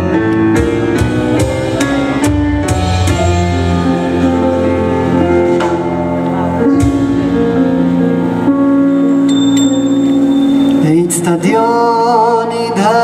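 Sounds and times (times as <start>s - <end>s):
upright bass line: 0.0s - 11.7s
piano notes and chords: 0.0s - 13.0s.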